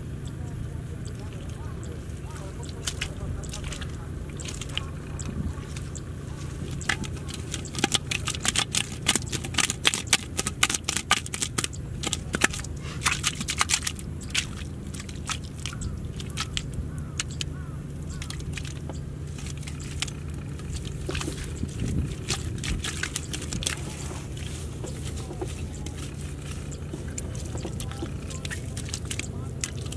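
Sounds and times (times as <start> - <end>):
hands digging wet mud: 1.2 - 29.9.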